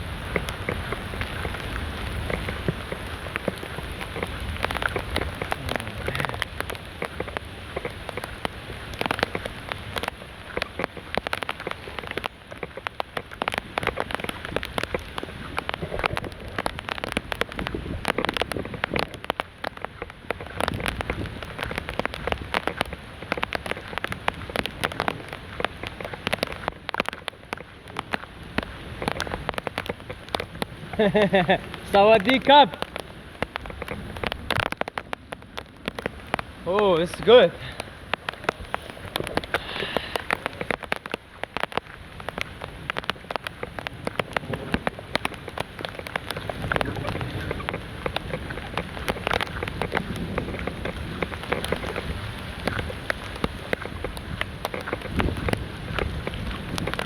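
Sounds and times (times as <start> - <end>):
heavy rain pouring: 0.0 - 57.0
raindrops ticking near microphone: 0.0 - 57.0.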